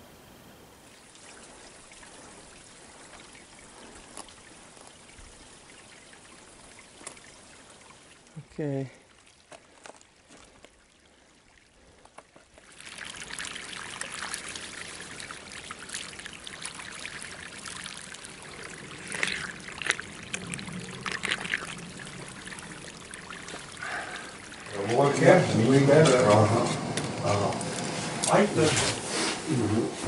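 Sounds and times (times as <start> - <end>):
water trickling over rock: 0.8 - 29.1
person drinking from flow: 0.9 - 30.0.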